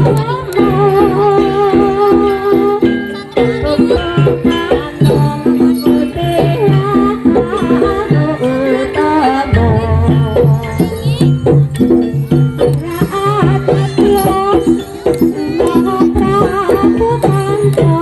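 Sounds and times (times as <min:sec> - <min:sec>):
percussion ensemble music: 0:00.0 - 0:18.0
wavering melody line: 0:00.0 - 0:18.0.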